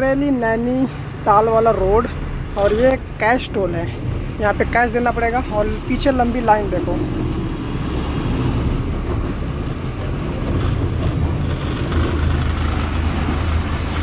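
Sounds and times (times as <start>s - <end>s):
diesel engine running low: 0.0s - 14.0s.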